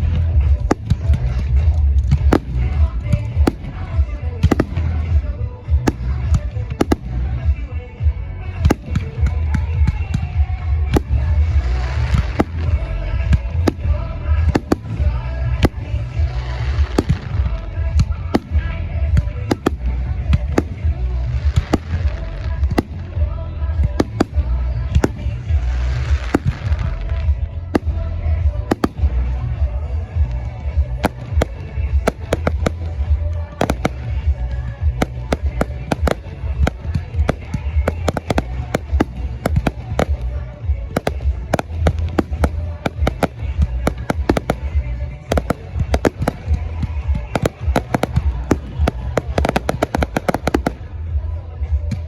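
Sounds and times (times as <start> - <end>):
deep rumble: 0.0 - 52.0
fireworks bangs and crackles: 0.0 - 52.0.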